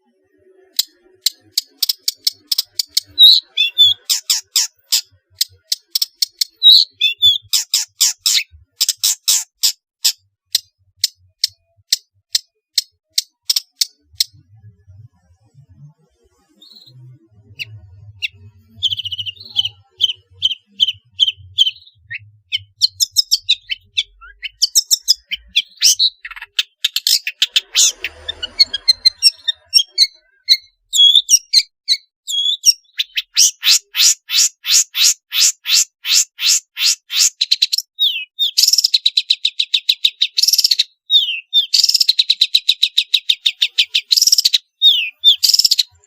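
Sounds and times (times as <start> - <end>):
bird singing chirps and whistles: 0.8 - 9.4, 16.5 - 46.0.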